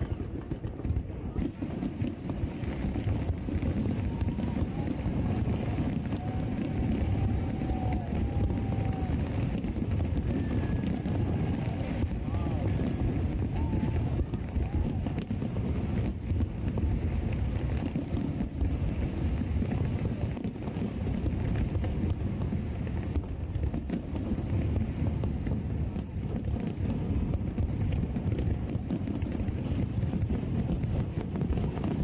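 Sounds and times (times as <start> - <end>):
faint crackles and pops: 0.0 - 32.0
wind rumbling on microphone: 0.0 - 32.0.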